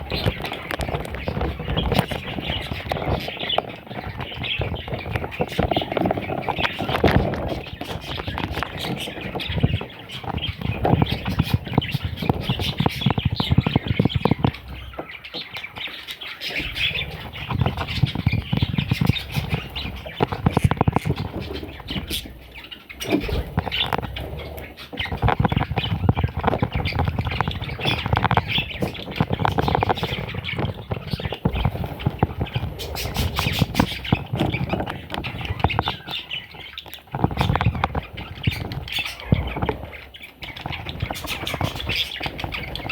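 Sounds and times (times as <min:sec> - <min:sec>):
bird chicks squawking: 0:00.0 - 0:42.9
small clicks and scratches: 0:00.0 - 0:42.9.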